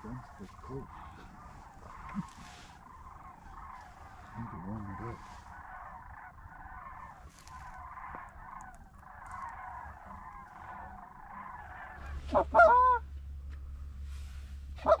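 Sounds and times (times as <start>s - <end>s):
flock of geese honking: 0.0s - 15.0s.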